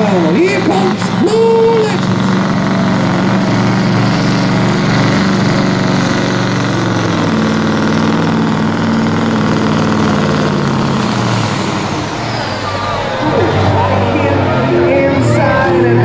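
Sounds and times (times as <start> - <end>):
diesel truck engine under load: 0.0 - 16.0.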